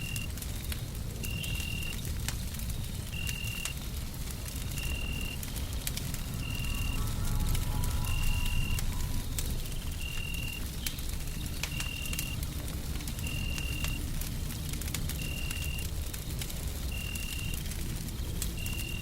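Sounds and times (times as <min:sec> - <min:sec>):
low rumble of white noise: 0:00.0 - 0:19.0
wood fire crackling: 0:00.0 - 0:19.0.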